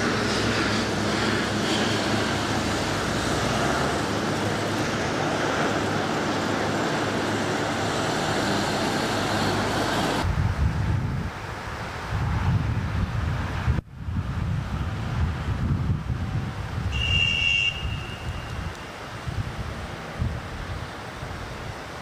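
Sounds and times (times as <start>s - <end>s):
road traffic with engine hum: 0.0s - 22.0s
wind rumble on microphone: 0.0s - 22.0s.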